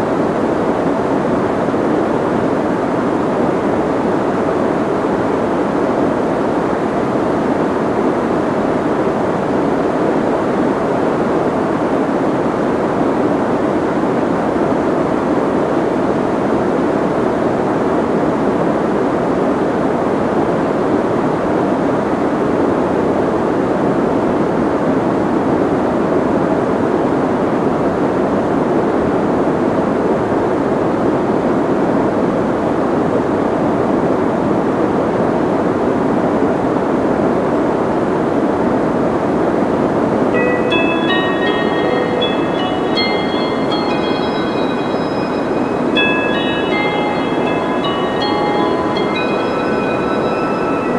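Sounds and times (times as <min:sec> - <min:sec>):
steady white noise hiss: 0:00.0 - 0:50.9.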